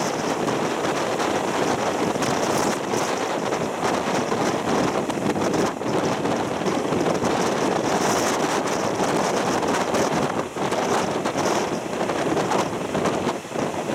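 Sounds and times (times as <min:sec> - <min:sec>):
wind rushing past microphone: 0:00.0 - 0:13.9.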